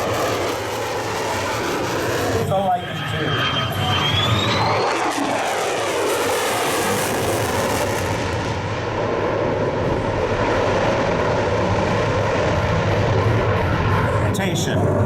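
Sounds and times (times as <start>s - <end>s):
jet engine passing overhead: 0.0s - 15.0s.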